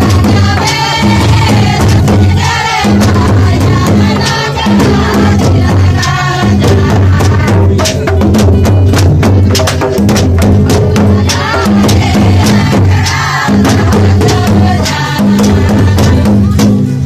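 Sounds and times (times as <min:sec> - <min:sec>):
people singing together: 0:00.0 - 0:16.9
barrel drum beating: 0:00.0 - 0:17.0.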